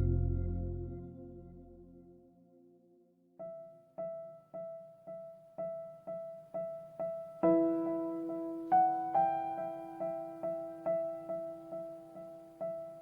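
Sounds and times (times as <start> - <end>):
piano music: 0.0 - 2.6, 3.4 - 13.0.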